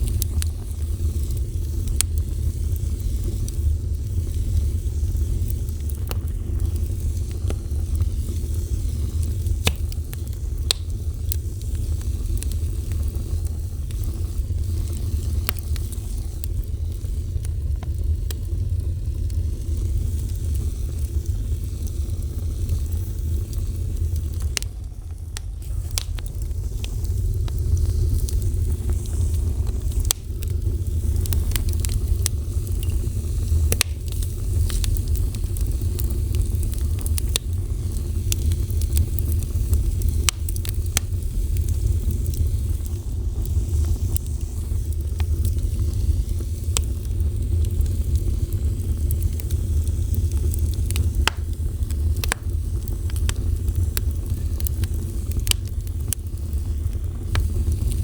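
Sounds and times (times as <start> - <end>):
fire crackling and popping: 0.0 - 58.0
rumble of flame: 0.0 - 58.0.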